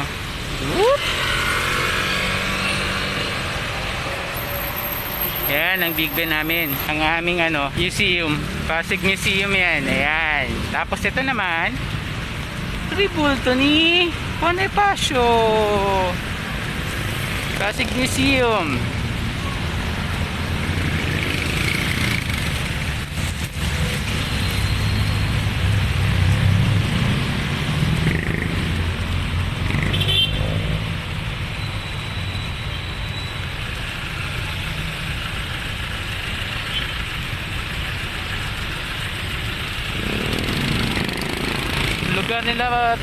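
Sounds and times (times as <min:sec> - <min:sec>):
vehicle engines passing: 0:00.0 - 0:43.0.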